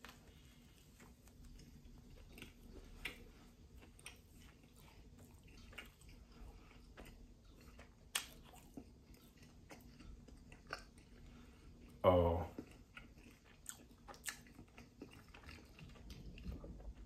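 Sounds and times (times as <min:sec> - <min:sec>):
chewing crispy food: 0:00.0 - 0:17.0.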